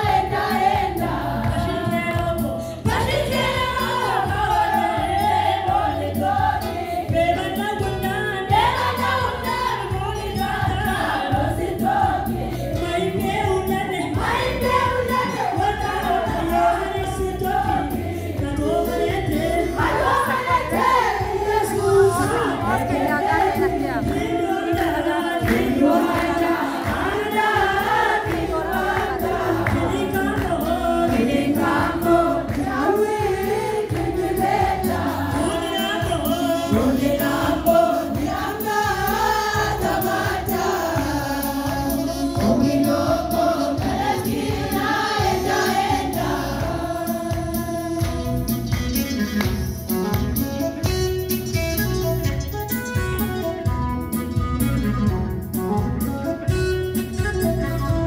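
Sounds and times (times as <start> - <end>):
women's choir singing a hymn: 0.0 - 48.7
instrumental backing: 0.0 - 58.0.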